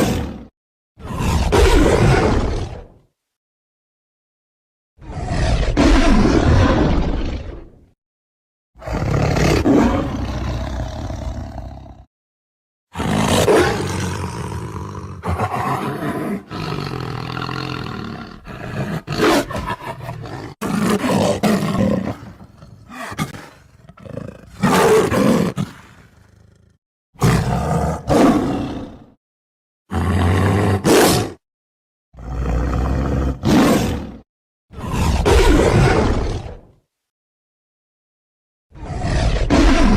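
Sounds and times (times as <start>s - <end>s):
lion roaring and growling: 0.0s - 3.0s, 5.0s - 7.9s, 8.8s - 12.1s, 12.9s - 29.2s, 29.9s - 31.4s, 32.2s - 36.7s, 38.8s - 39.9s.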